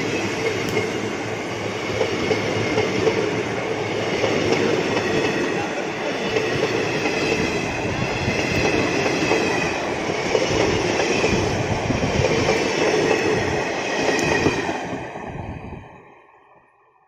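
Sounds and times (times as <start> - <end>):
train wheels rumbling and clattering: 0.0 - 15.5.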